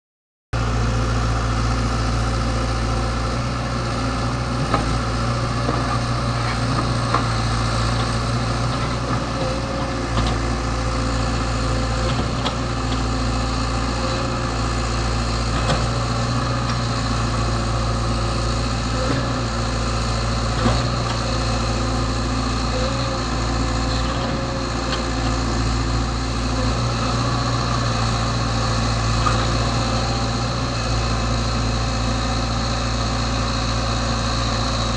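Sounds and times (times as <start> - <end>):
excavator diesel engine running: 0.6 - 34.9.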